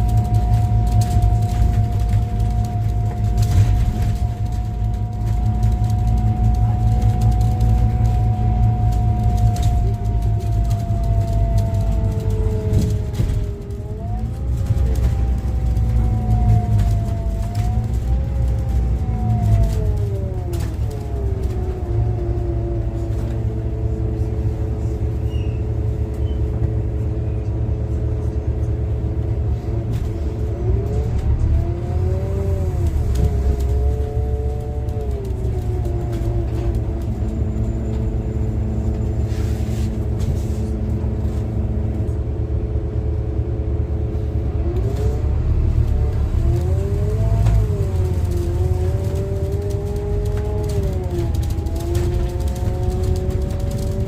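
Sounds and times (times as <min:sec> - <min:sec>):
bus engine and road rumble: 0:00.0 - 0:54.0
bus engine whine: 0:00.0 - 0:54.0.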